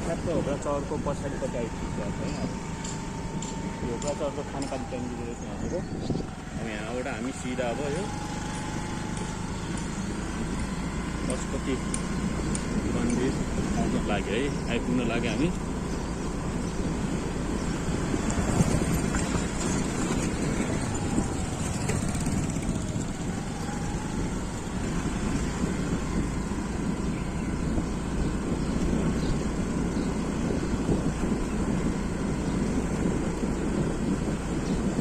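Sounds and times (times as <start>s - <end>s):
motorcycle engine: 0.0s - 35.0s
road and air noise: 0.0s - 35.0s.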